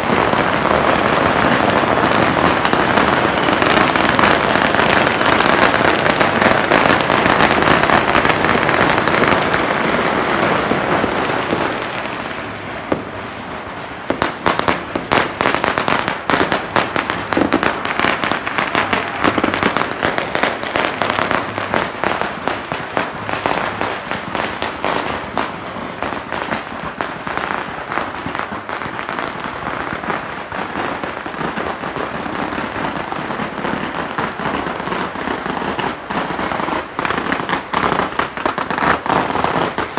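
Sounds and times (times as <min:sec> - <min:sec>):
firecrackers and fireworks bangs: 0:00.0 - 0:39.9.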